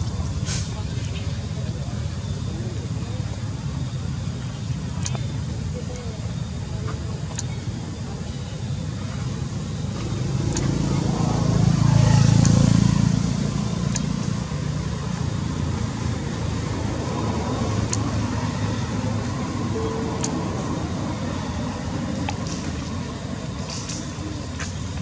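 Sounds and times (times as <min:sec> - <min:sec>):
passing vehicle engine rumble: 0:00.0 - 0:25.0.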